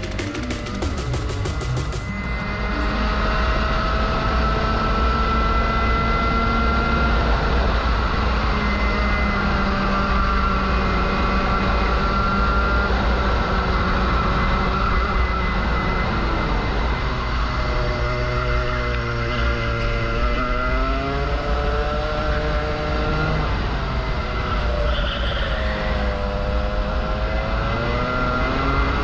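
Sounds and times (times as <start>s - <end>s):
kart engine running: 0.0s - 29.0s.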